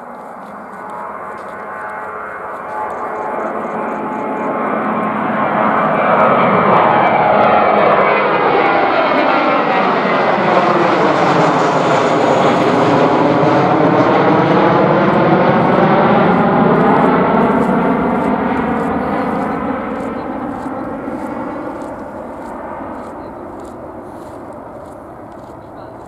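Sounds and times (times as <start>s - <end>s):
jet airliner roar: 0.0s - 26.0s.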